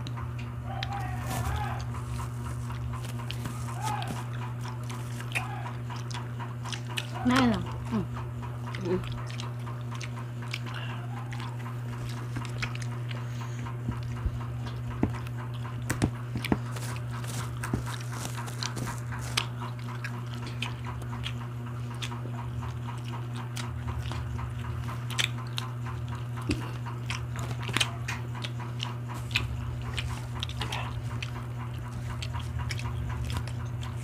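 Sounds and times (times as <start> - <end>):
chewing and lip-smacking: 0.0 - 34.0
steady low hum: 0.0 - 34.0.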